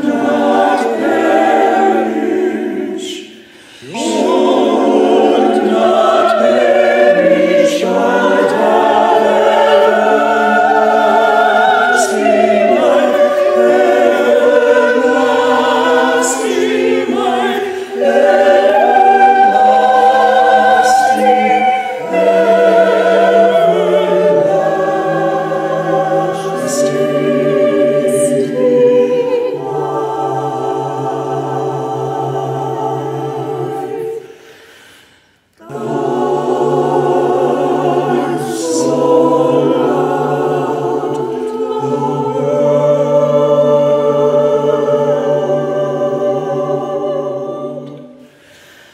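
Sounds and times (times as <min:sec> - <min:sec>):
choir singing in harmony: 0:00.0 - 0:48.9.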